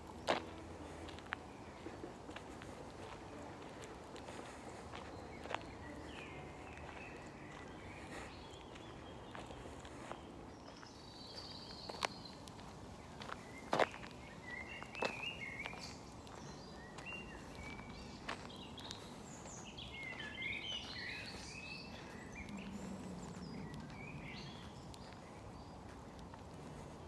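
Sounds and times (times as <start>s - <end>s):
songbirds chirping: 0.0s - 27.0s
steady outdoor hiss: 0.0s - 27.0s.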